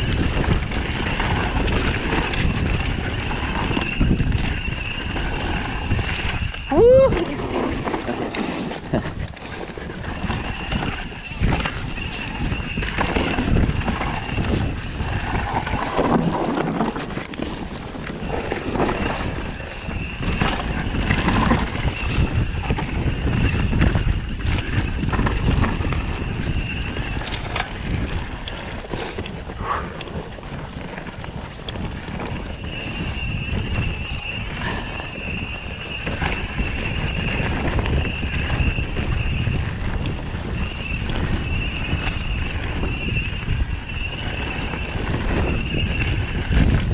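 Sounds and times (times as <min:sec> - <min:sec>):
bike rattling and knocking: 0:00.0 - 0:46.9
tyres rolling on dirt: 0:00.0 - 0:46.9
wind rushing over microphone: 0:00.0 - 0:46.9.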